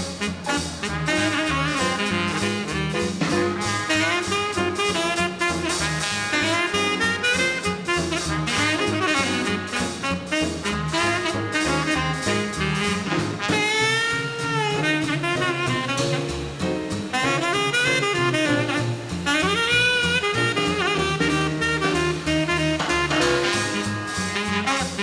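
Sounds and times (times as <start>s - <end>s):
piano: 0.0s - 25.0s
saxophone: 0.0s - 25.0s
trumpet: 0.0s - 25.0s
upright bass: 0.0s - 25.0s.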